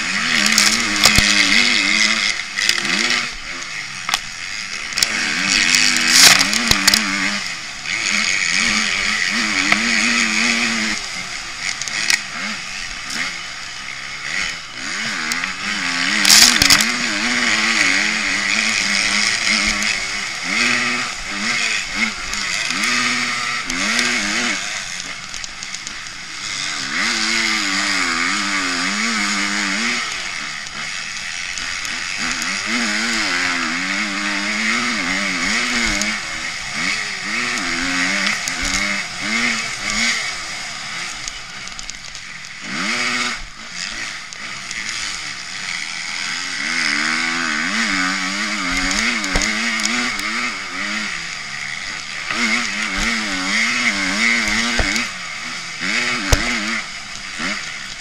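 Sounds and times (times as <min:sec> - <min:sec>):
constant rushing hiss: 0:00.0 - 0:58.0
motocross bike engine revving: 0:00.0 - 0:58.0.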